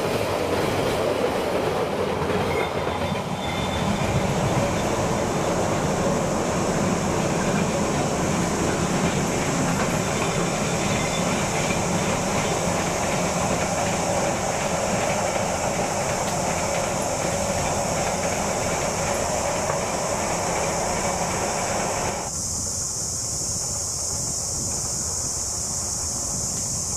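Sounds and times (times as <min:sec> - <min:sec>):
train wheels clattering on rails: 0:00.0 - 0:22.3, 0:23.1 - 0:26.9.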